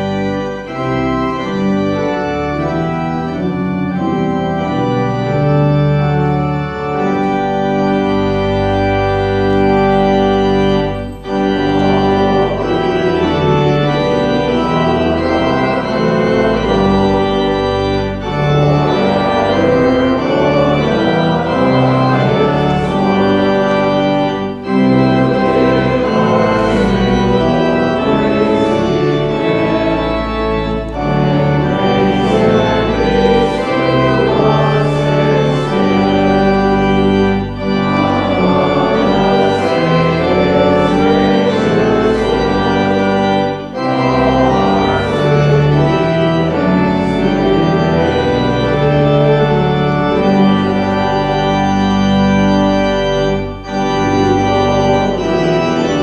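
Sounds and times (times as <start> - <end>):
church organ playing a hymn: 0.0 - 56.0.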